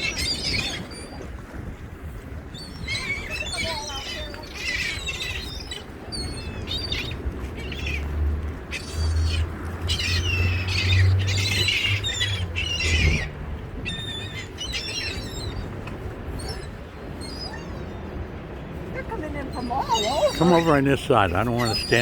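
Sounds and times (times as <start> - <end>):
gulls squawking: 0.0 - 1.3, 2.6 - 8.1, 8.7 - 18.2, 18.8 - 22.0.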